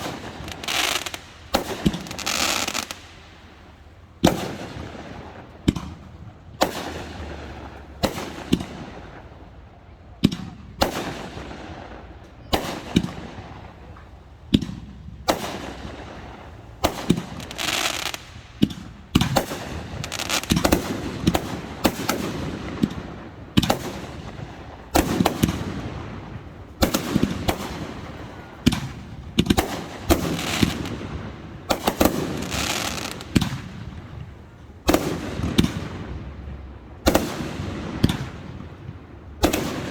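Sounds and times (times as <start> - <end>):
fireworks booming: 0.0 - 39.9
fireworks crackling: 0.0 - 39.9.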